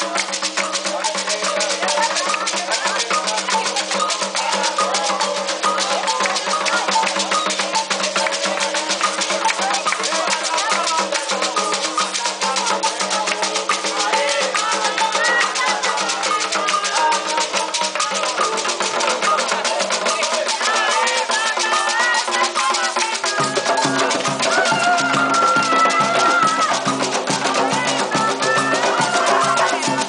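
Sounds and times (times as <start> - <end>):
hand drums beating: 0.0 - 30.0
rattles shaking: 0.0 - 30.0
voices singing a chant: 0.0 - 30.0.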